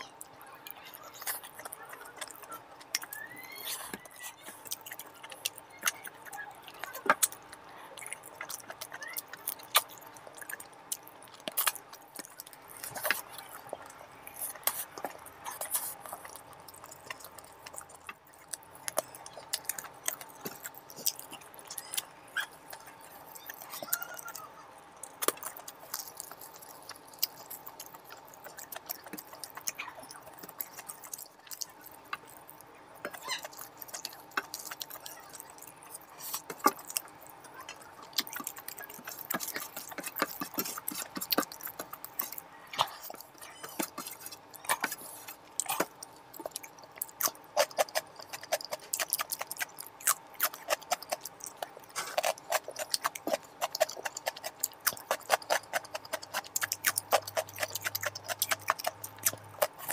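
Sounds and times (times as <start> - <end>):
chewing and wet mouth clicks: 0.0 - 59.9.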